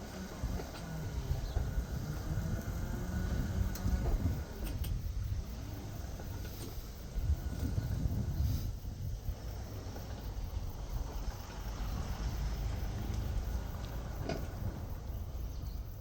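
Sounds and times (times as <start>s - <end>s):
cars passing by: 0.0s - 16.0s
low traffic rumble: 0.0s - 16.0s.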